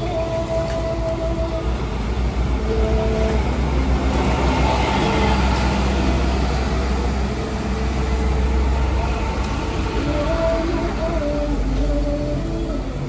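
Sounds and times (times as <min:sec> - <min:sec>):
road traffic: 0:00.0 - 0:13.0
vehicle engines rumbling: 0:00.0 - 0:13.0.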